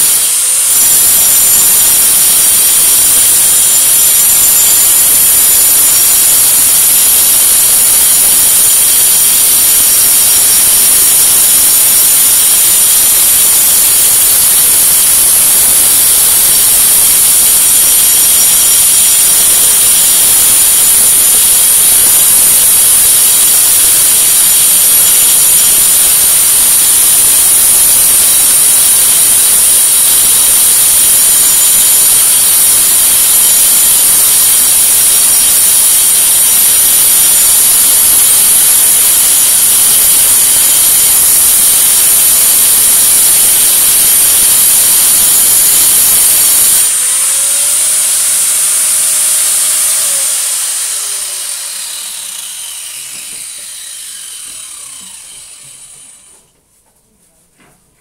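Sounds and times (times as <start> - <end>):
power tool grinding concrete: 0.0 - 56.4.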